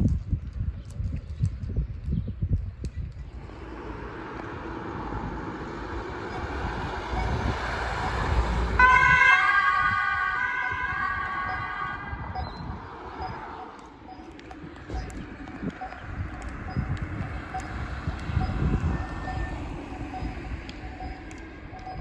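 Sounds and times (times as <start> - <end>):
van driving past: 3.3 - 22.0
two-tone siren: 3.4 - 22.0.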